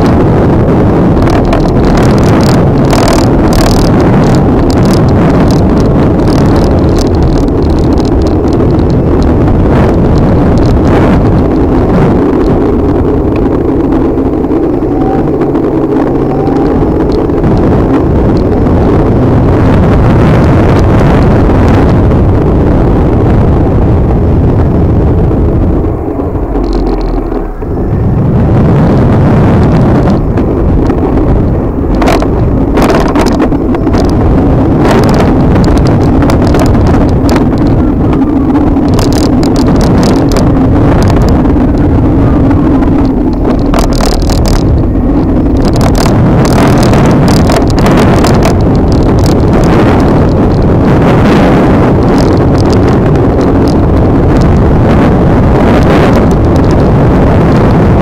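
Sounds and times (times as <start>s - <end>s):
road noise: 0.0s - 58.0s
steady low hum: 0.0s - 58.0s
wind buffeting microphone: 0.0s - 58.0s.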